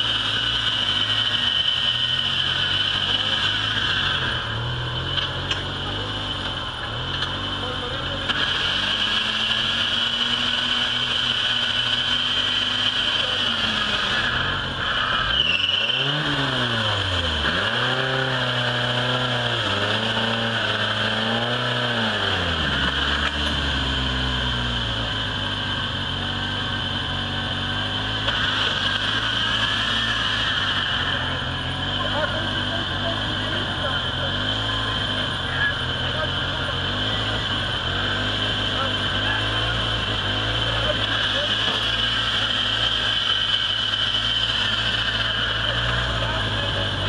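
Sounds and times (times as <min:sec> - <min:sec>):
off-road engine revving: 0:00.0 - 0:47.0.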